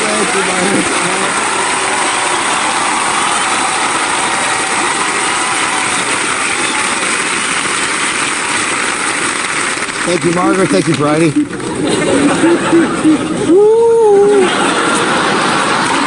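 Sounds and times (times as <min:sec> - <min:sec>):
audience applauding and cheering: 0:00.0 - 0:16.0.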